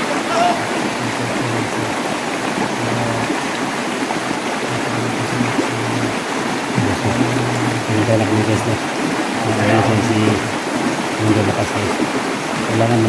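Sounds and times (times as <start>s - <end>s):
stream rushing over stones: 0.0s - 13.0s.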